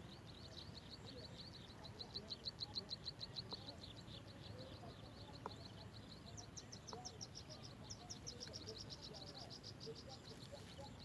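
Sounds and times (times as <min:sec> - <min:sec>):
low outdoor background noise: 0:00.0 - 0:11.0.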